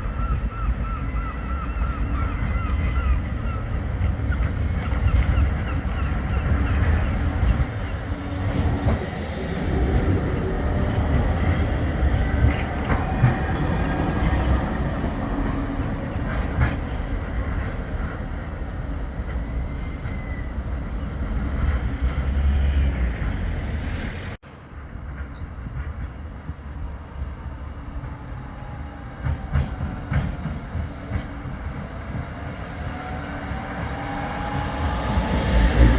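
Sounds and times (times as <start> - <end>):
traffic noise: 0.0 - 35.9
tram rumbling on track: 0.0 - 35.9.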